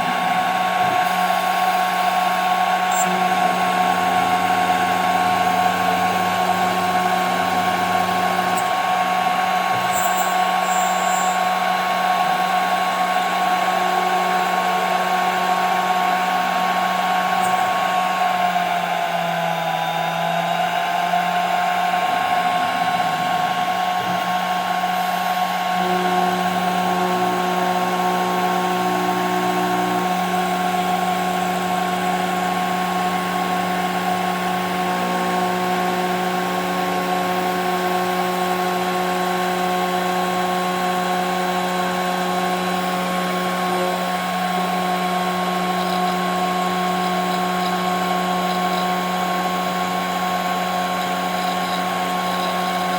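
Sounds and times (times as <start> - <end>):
router spindle whining: 0.0 - 52.9.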